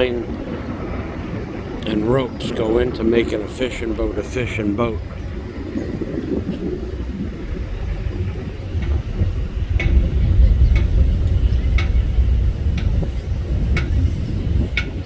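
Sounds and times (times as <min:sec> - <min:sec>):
ferry engine rumble: 0:00.0 - 0:15.0.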